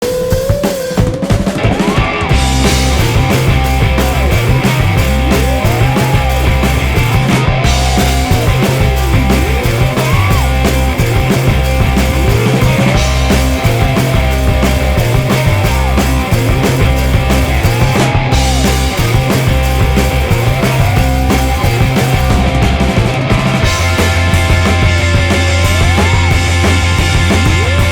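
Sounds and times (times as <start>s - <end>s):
loud rock music: 0.0s - 27.9s.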